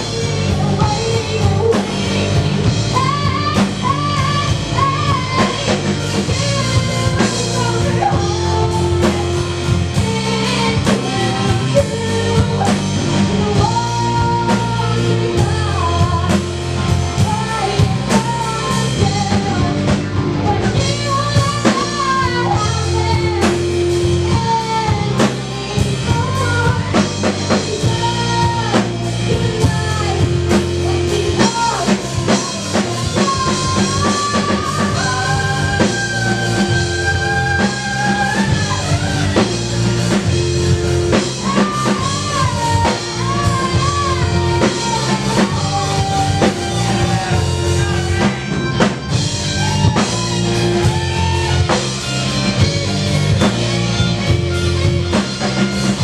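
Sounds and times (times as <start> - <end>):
woman singing into microphone: 0.0 - 54.4
live rock band playing: 0.0 - 56.0.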